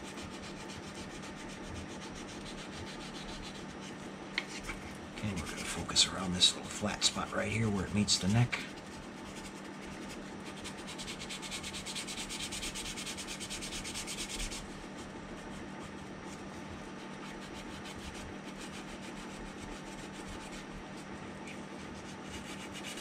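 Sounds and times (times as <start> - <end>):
sandpaper rubbing on plastic: 0.0 - 23.0.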